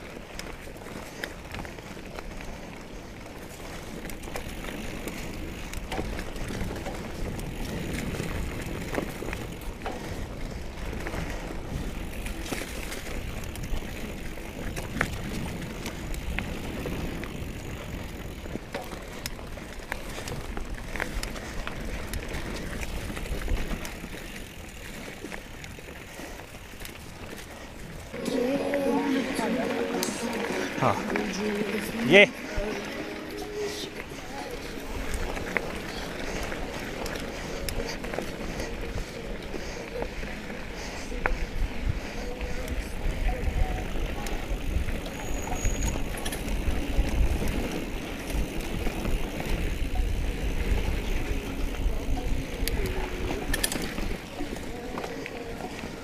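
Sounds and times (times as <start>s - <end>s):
bike rattles and clacks: 0.0s - 56.0s
tyres rumbling on dirt: 0.0s - 56.0s.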